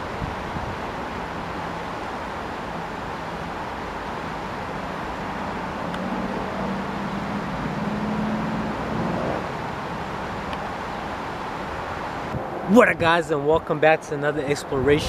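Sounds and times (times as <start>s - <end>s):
road traffic rushing: 0.0s - 15.0s
vehicle engine hum: 0.0s - 15.0s.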